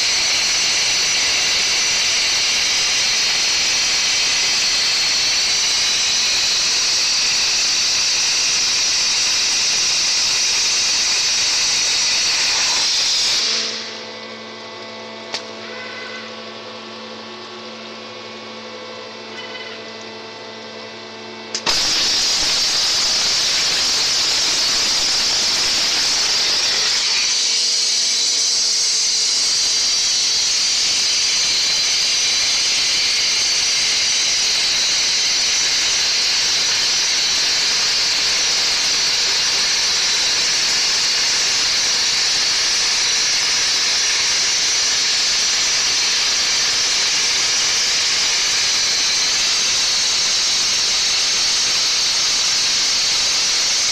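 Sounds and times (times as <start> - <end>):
water jet loud hiss: 0.0 - 14.1, 21.6 - 53.9
cutting machine humming: 0.0 - 16.6, 19.0 - 53.9.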